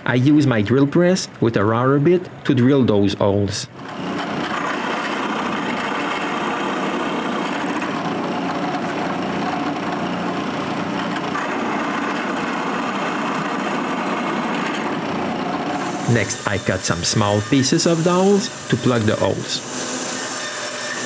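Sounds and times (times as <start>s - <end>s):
drill press running: 3.7s - 21.0s.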